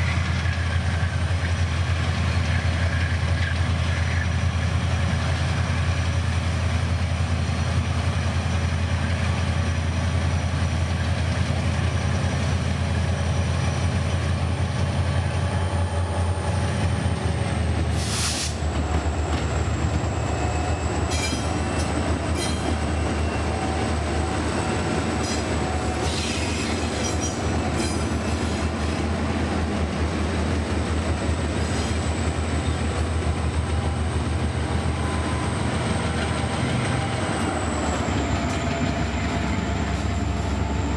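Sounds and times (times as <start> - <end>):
wheels clicking and squealing on rails: 0.0 - 40.9.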